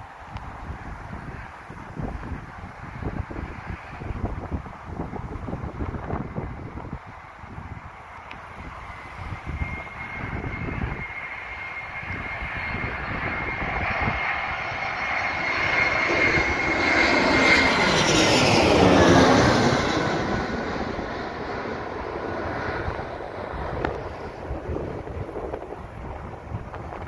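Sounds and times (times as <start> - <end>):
jet airliner passing overhead: 0.0 - 27.0.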